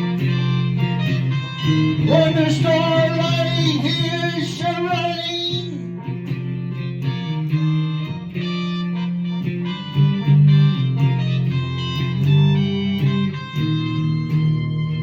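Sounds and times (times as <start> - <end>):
guitar playing plucked notes: 0.0 - 15.0
sustained low bass line: 0.0 - 15.0.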